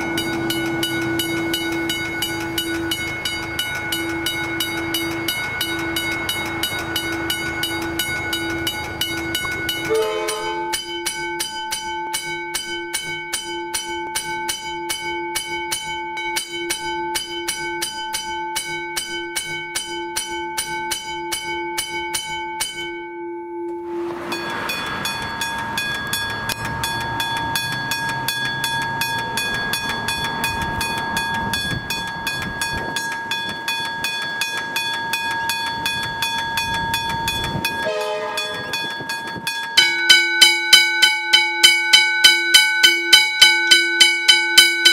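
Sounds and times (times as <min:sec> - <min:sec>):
level crossing bell ringing: 0:00.0 - 0:44.9.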